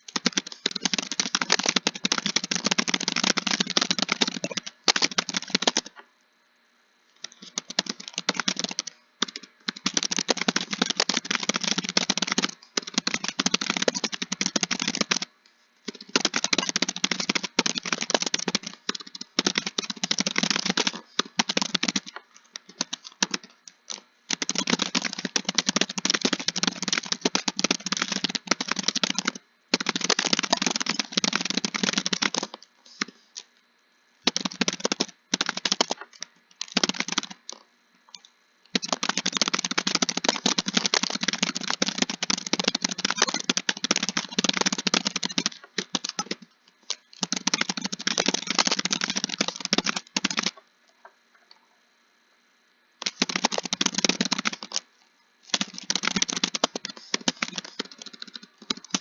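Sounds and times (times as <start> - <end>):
typing on computer keyboard: 0.0 - 6.0, 7.2 - 15.3, 15.9 - 33.5, 34.2 - 50.6, 53.0 - 54.9, 55.5 - 59.0.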